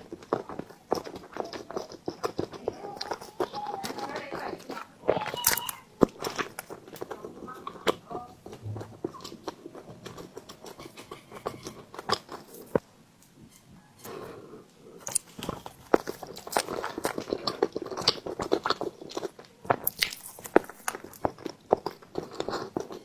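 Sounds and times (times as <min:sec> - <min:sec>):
chewing soft bread with wet mouth clicks: 0:00.0 - 0:12.8, 0:15.0 - 0:23.0.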